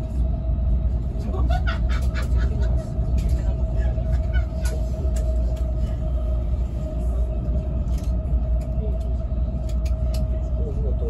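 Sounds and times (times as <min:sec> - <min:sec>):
constant hum: 0:00.0 - 0:11.0
electric train running rumble: 0:00.0 - 0:11.0.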